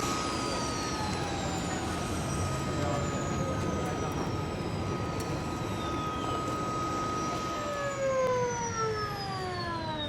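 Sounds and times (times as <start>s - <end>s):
aircraft turbine whine: 0.0s - 10.0s.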